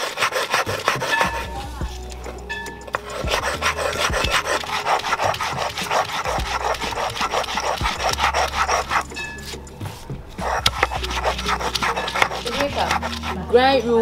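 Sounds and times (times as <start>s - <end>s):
grinding stone rubbing strokes: 0.0s - 14.0s.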